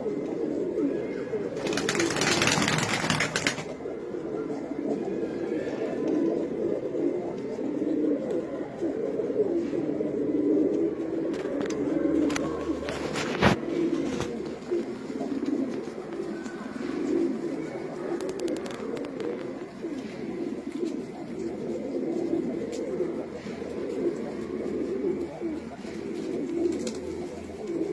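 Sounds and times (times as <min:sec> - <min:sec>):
pigeons cooing: 0:00.0 - 0:27.9.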